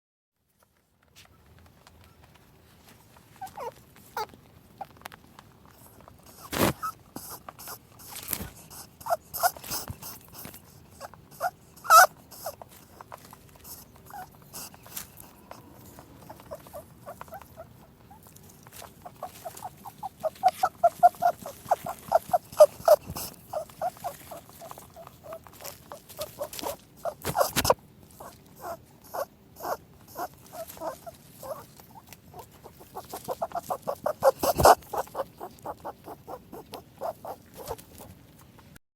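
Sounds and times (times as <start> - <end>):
rabbit oinking and squeaking: 1.2 - 38.8.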